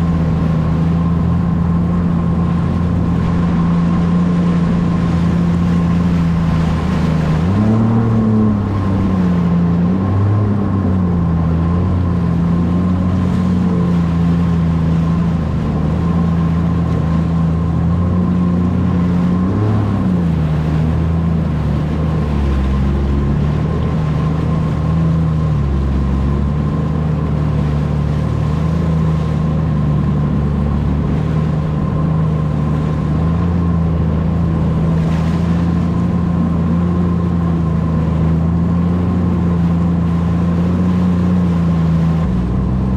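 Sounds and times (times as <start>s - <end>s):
jet ski engine running: 0.0s - 42.9s.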